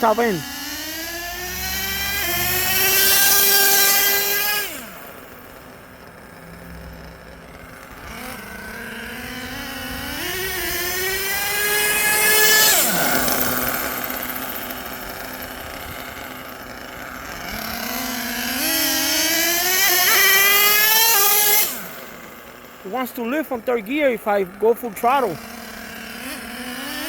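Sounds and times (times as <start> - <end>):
model engines screaming: 0.0 - 27.0.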